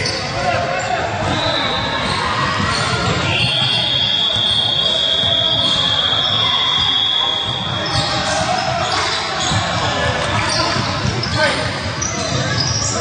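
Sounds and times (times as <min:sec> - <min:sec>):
hubbub of basketball game: 0:00.0 - 0:13.0.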